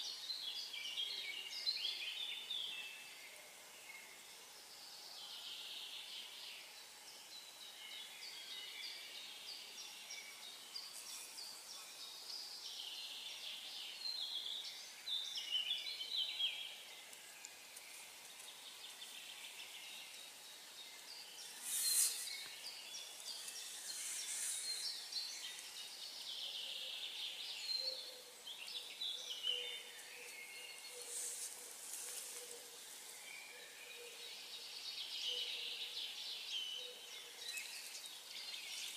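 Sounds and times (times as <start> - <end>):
songbirds chirping and warbling: 0.0 - 38.9.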